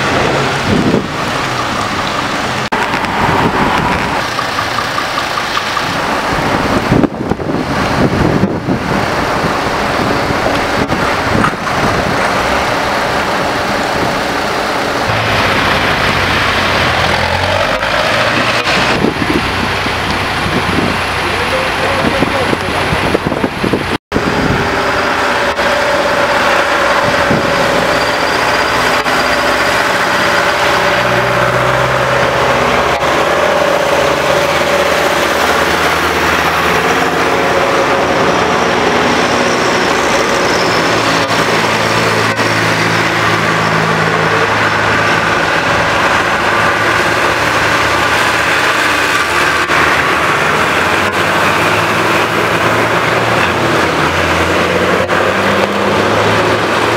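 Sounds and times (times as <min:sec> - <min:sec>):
diesel tractor engines passing: 0:00.0 - 0:56.9
tyres hissing on wet road: 0:00.0 - 0:56.9.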